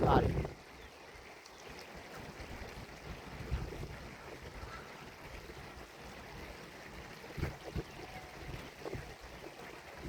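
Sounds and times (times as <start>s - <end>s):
wind buffeting microphone: 0.0s - 0.8s, 2.2s - 10.0s
faint outdoor hiss: 0.0s - 10.0s.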